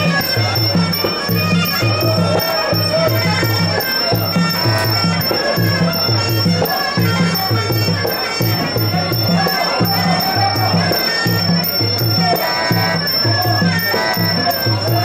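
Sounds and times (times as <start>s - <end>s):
repeating drum beat: 0.0s - 15.0s
small cymbals: 0.0s - 15.0s.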